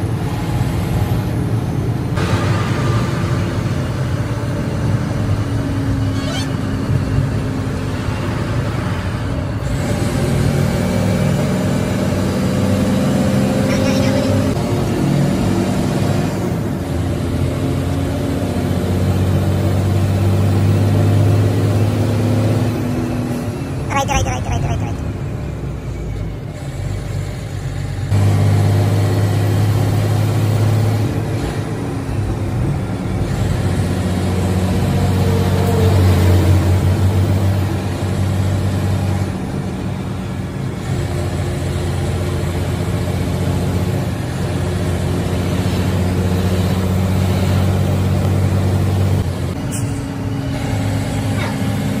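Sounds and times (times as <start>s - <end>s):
coach engine running hard: 0.0s - 52.0s
road noise: 0.0s - 52.0s.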